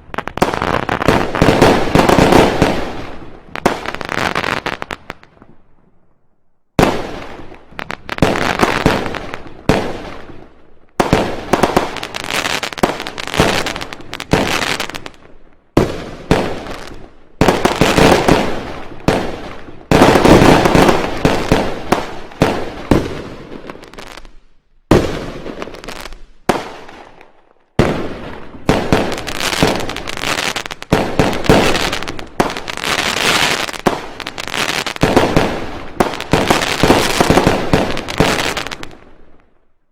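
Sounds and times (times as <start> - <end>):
fireworks and firecrackers banging: 0.0 - 5.9, 6.7 - 39.8.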